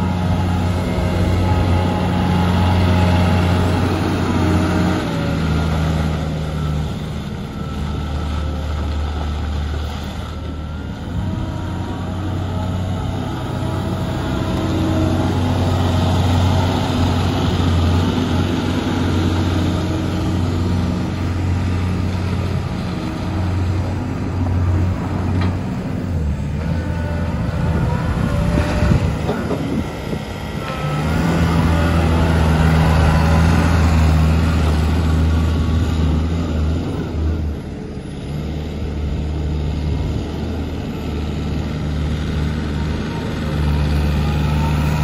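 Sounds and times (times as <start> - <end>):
diesel loader engine running: 0.0 - 45.0.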